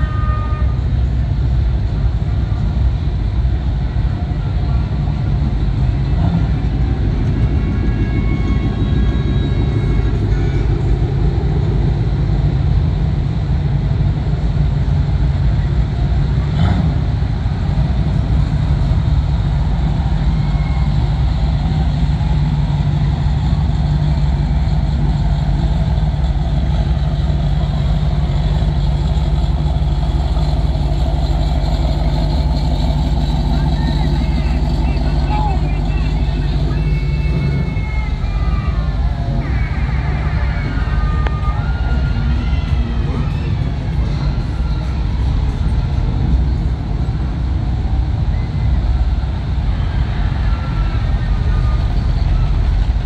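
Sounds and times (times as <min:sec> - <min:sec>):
deep engine drone: 0:00.0 - 0:53.0.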